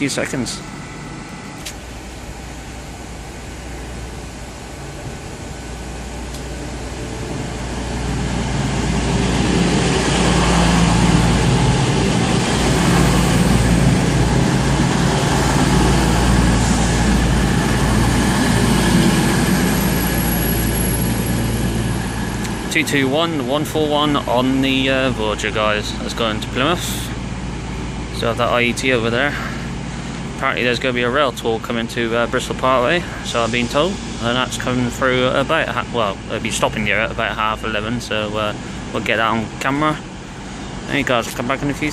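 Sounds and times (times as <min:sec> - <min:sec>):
diesel train engine hum: 0:00.0 - 0:41.9.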